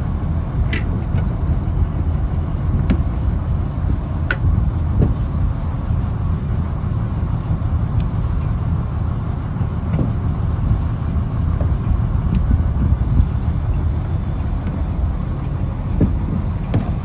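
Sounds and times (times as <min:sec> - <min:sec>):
boat engine low rumble: 0:00.0 - 0:17.0.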